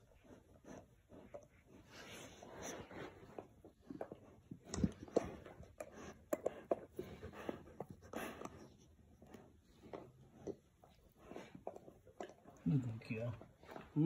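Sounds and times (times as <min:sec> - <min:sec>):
dogs gnawing on a bone: 0:00.0 - 0:14.0.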